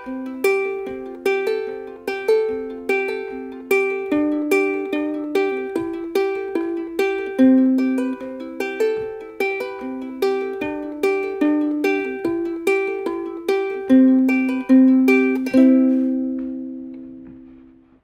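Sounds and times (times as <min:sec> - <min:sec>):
ukulele plucked notes: 0:00.0 - 0:18.0.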